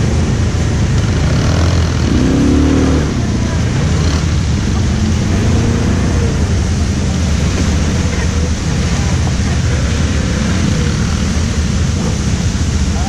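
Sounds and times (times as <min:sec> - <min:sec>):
quad bike engine rumbling: 0:00.0 - 0:13.0.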